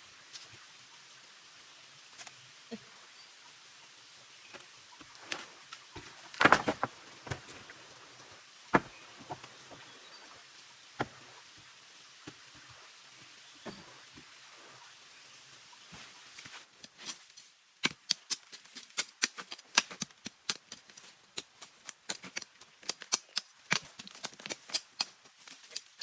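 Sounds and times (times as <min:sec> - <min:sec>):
light rain hiss: 0:00.0 - 0:26.0.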